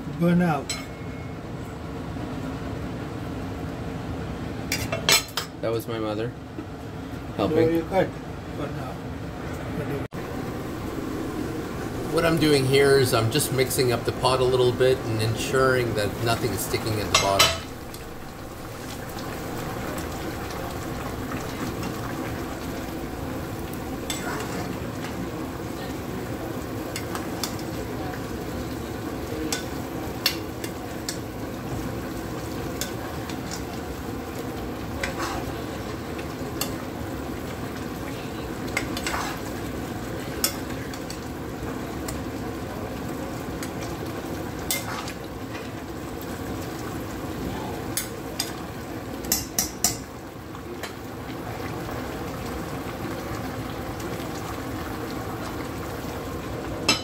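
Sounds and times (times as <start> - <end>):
food sizzling: 10.1 - 57.0.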